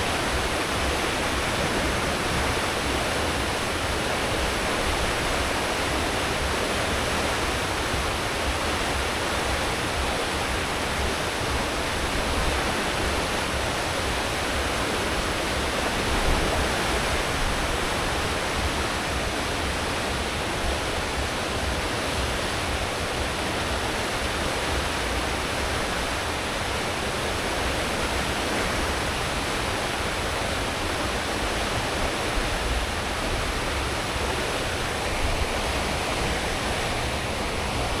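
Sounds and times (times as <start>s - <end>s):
rush of water in ship wake: 0.0s - 38.0s.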